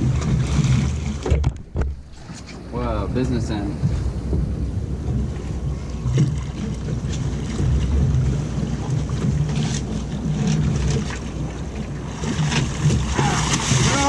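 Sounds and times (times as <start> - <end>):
water washing against hull: 0.0 - 14.0
wind rumbling on microphone: 0.0 - 14.0.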